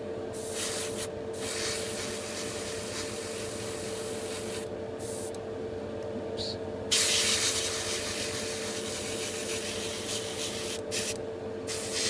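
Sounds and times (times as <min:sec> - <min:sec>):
steady mechanical hum: 0:00.0 - 0:12.0
airbrush hissing: 0:00.4 - 0:05.3, 0:06.9 - 0:12.0.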